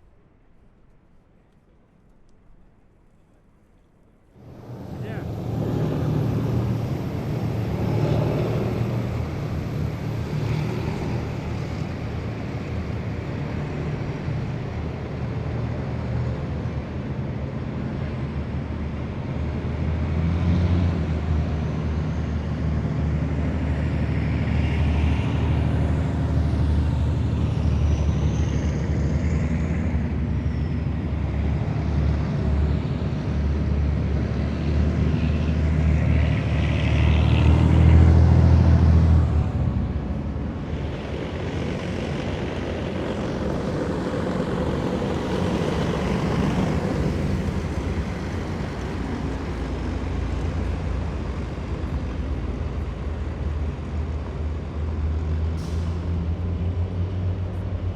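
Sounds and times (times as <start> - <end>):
heavy military vehicles rumbling: 4.3 - 57.9.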